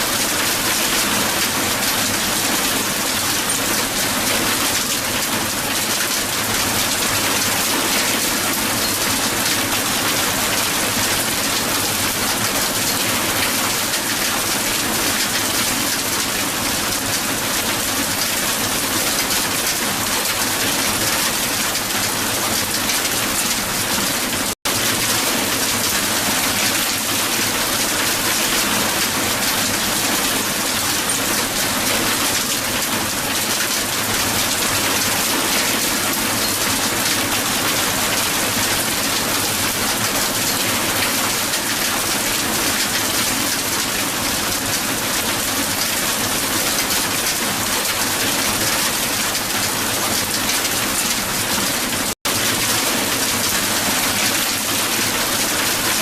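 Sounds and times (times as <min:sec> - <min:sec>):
hail falling on ground: 0:00.0 - 0:56.0.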